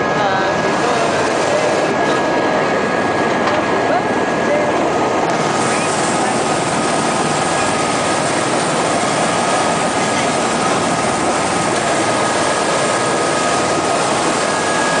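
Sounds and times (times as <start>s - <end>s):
helicopter engine and rotor noise: 0.0s - 15.0s
high turbine whine: 0.0s - 15.0s.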